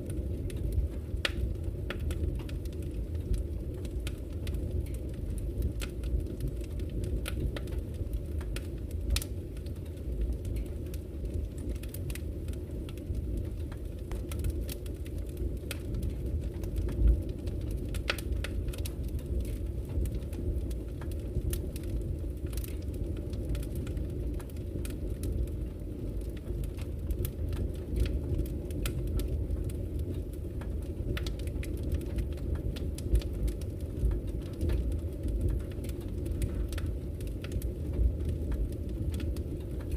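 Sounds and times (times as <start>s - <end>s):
fire crackling and popping: 0.0s - 39.9s
low rumble of burning fire: 0.0s - 39.9s.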